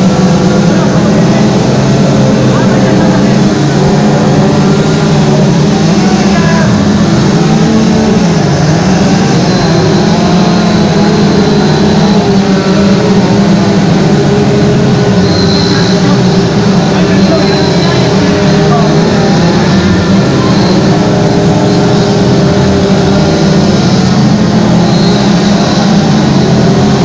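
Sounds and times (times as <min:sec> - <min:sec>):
chainsaw carving wood: 0:00.0 - 0:27.0.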